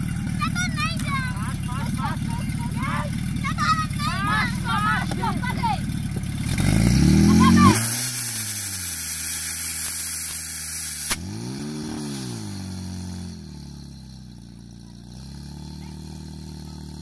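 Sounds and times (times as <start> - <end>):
pump engine running hard: 0.0 - 17.0.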